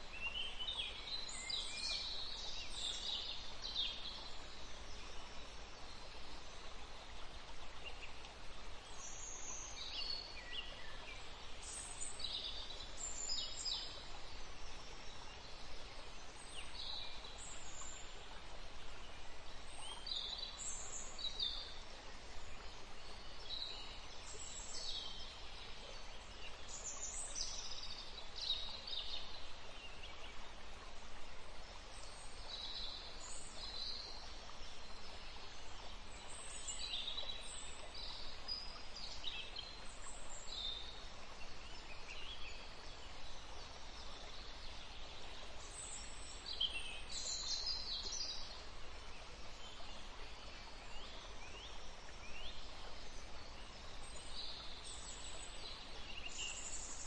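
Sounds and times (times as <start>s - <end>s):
steady background hiss: 0.0s - 57.0s.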